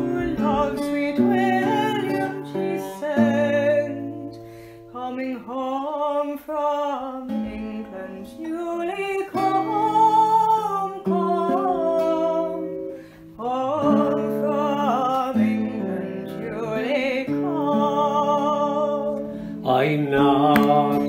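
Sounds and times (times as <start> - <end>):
acoustic guitar: 0.0 - 21.0.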